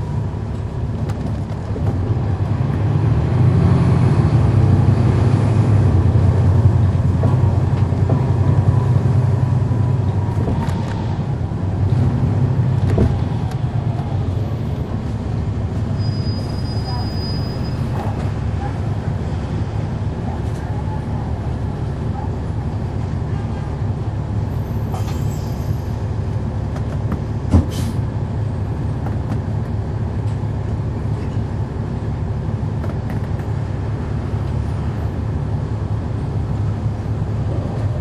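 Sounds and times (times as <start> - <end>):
bus diesel engine drone: 0.0 - 38.0.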